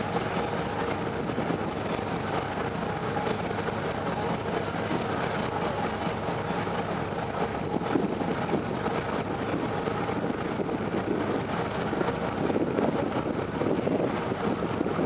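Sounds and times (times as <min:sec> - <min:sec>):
ferry engine drone: 0:00.0 - 0:15.0
water along the hull: 0:00.0 - 0:15.0
wind buffeting microphone: 0:00.0 - 0:15.0.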